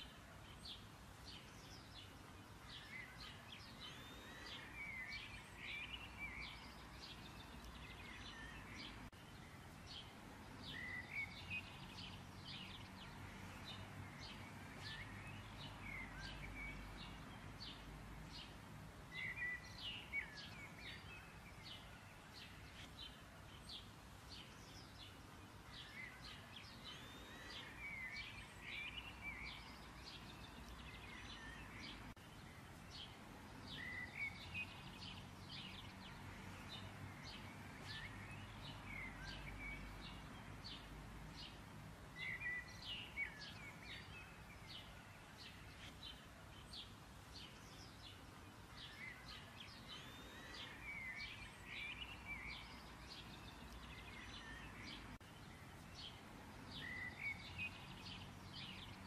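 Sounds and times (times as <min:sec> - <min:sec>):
small birds chirping faintly: 0:00.0 - 0:59.0.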